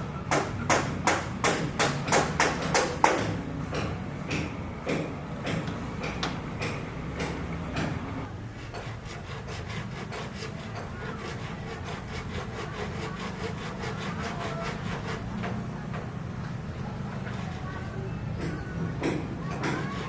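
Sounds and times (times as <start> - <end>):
hand saw cutting wood: 0.3 - 16.0, 17.0 - 20.0.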